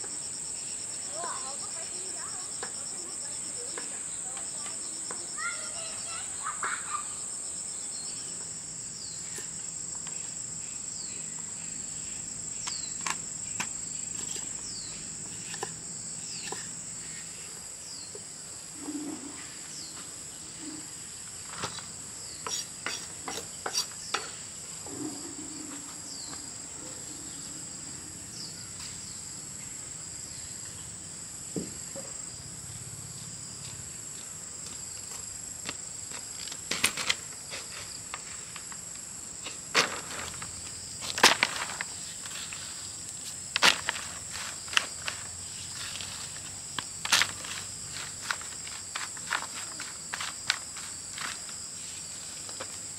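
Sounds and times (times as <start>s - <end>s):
insect chorus chirring: 0.0s - 52.9s.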